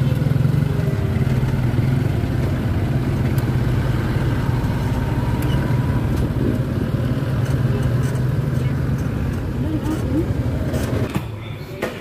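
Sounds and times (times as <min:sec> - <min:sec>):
vehicle engine idling: 0:00.0 - 0:11.6
cars driving past: 0:00.0 - 0:12.0.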